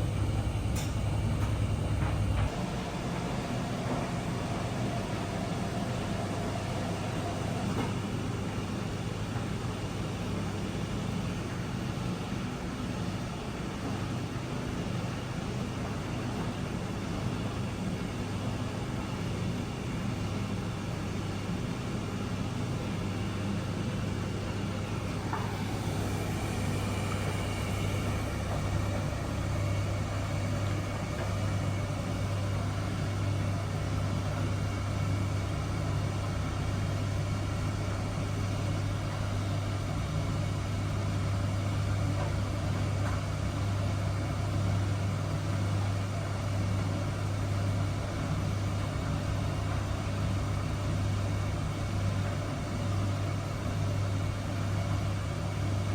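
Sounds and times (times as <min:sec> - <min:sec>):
washing machine humming: 0:00.0 - 0:55.9.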